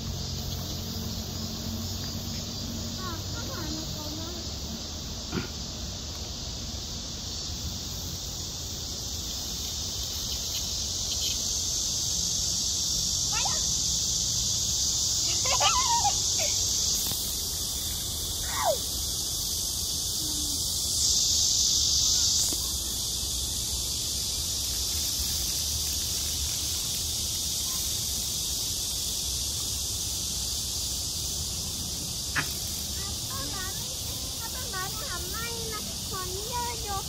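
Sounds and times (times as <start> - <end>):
cicadas droning: 0.0 - 37.0.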